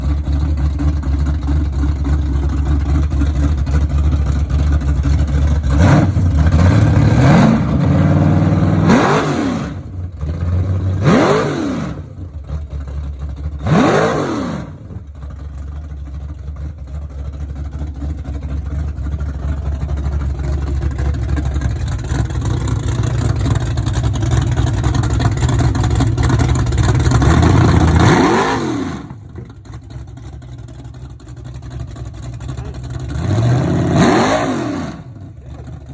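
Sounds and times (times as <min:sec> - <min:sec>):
car engine revving: 0:00.0 - 0:15.3, 0:18.0 - 0:35.9.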